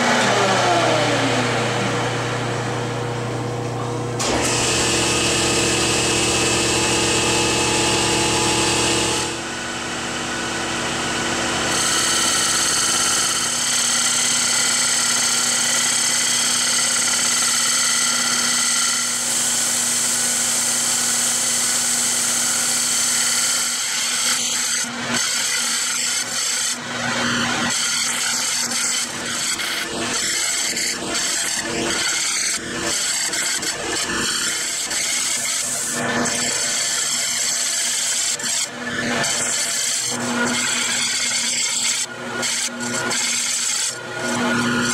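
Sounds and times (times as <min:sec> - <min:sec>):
lathe machine whine: 0:00.0 - 0:44.9.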